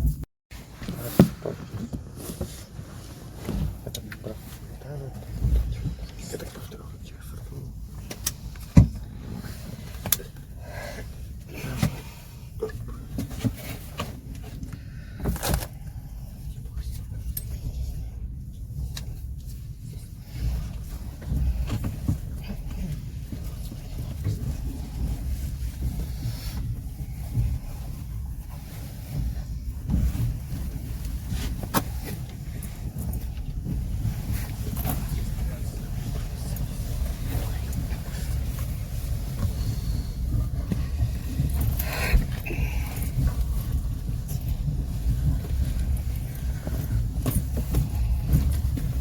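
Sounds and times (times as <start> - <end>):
train carriage rumble: 0.0 - 49.0.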